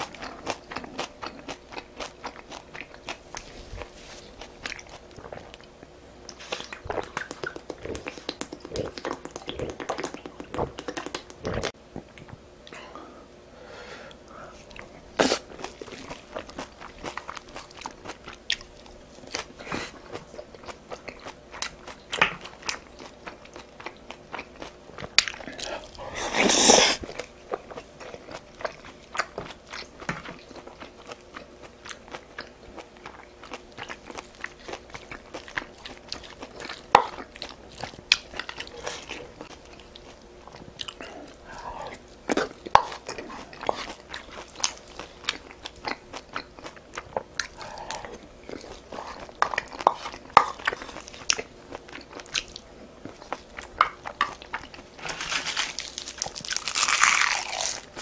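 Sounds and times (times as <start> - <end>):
person chewing food: 0.0 - 12.8, 14.1 - 58.0.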